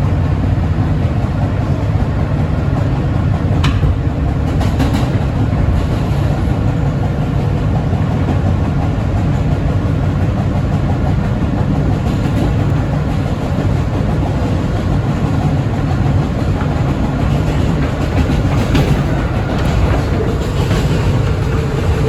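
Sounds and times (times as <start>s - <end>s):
subway train wheels rumbling: 0.0s - 22.0s
train clattering: 0.0s - 22.0s.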